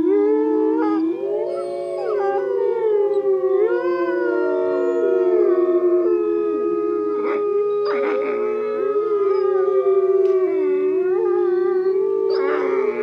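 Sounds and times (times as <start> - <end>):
pack of canines howling: 0.0 - 13.0.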